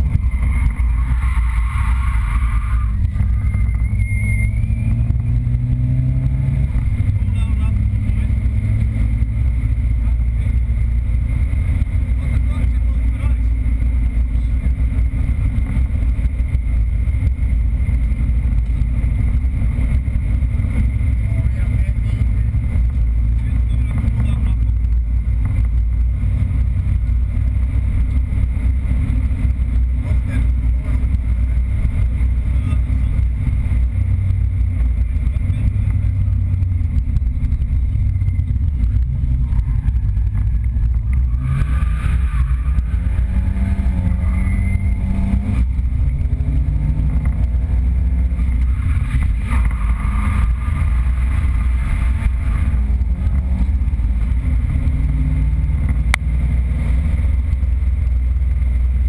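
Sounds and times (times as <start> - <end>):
car engine rumbling and revving: 0.0 - 59.0.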